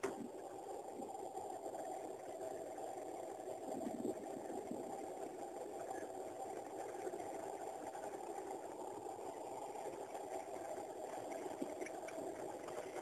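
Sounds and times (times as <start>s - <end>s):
furnace burner rushing: 0.0s - 13.0s.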